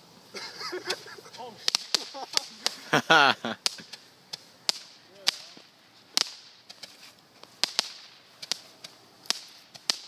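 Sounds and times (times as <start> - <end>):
fireworks cracks with echo: 0.7 - 10.0.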